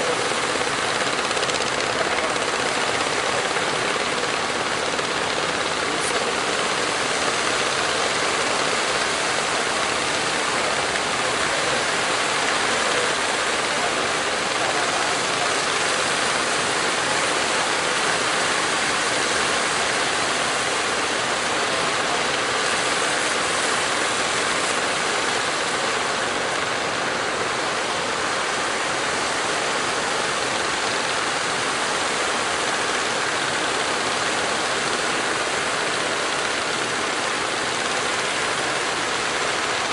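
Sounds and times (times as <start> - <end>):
boat engines running: 0.0 - 39.9.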